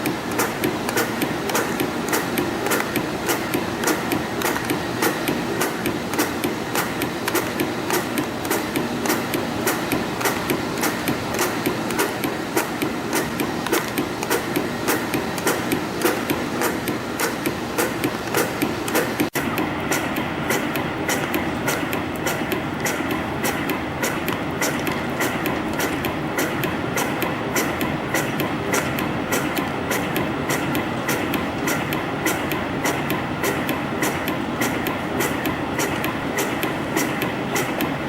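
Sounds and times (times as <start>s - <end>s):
sharp rhythmic machine clicks: 0.0s - 38.0s.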